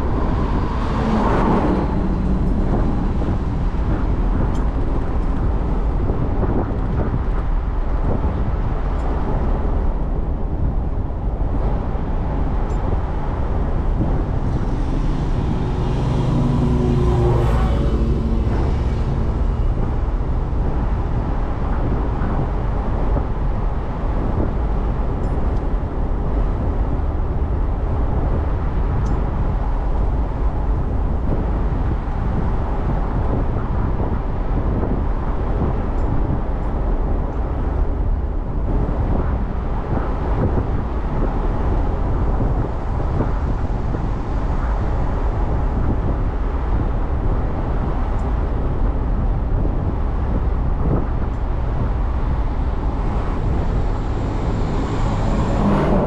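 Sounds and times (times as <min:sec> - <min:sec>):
car road noise and engine rumble: 0:00.0 - 0:56.0
passing vehicle engine hum: 0:00.0 - 0:56.0.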